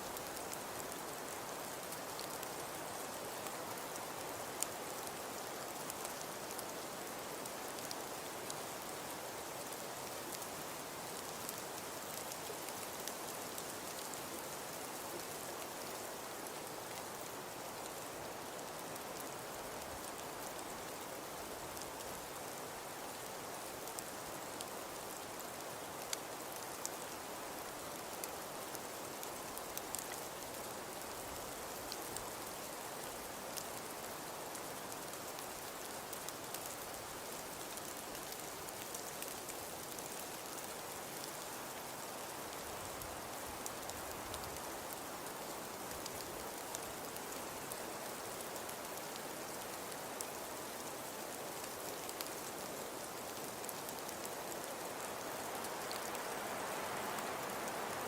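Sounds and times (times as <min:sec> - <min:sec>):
hiss of falling snow: 0:00.0 - 0:58.0.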